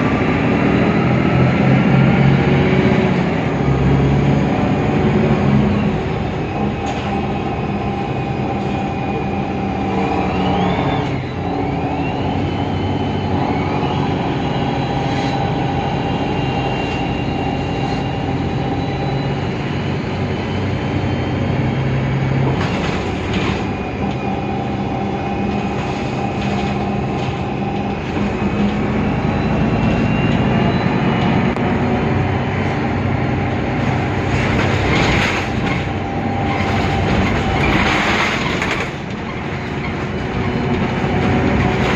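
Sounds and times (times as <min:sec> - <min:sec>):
bus diesel engine running: 0:00.0 - 0:41.9
gearbox whine rising in pitch: 0:00.0 - 0:41.9.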